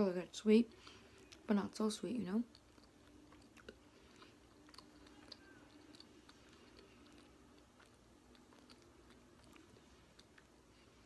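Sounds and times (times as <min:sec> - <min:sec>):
low room hum: 0:00.0 - 0:11.0
chewing with mouth clicks: 0:01.0 - 0:01.5, 0:02.3 - 0:11.0.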